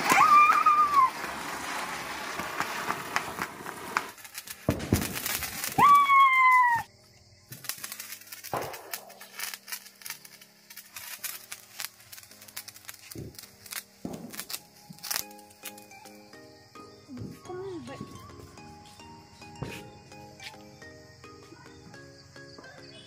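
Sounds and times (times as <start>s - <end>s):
firework high squeals: 0.0s - 6.9s, 7.5s - 22.1s
sparklers fizzing: 0.0s - 6.9s, 7.5s - 21.8s
firework hissing and crackling: 0.0s - 21.4s.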